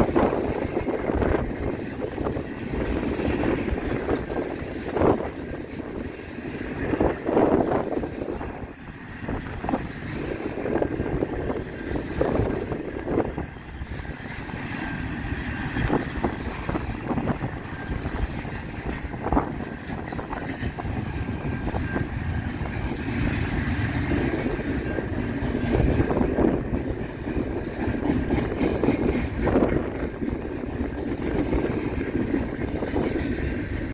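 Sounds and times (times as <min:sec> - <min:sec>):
steel wheels rumbling on rail: 0:00.0 - 0:33.9.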